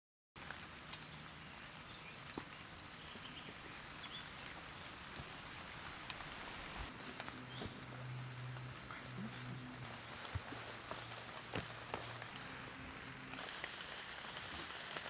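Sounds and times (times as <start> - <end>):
faint steady hiss: 0.4 - 15.0.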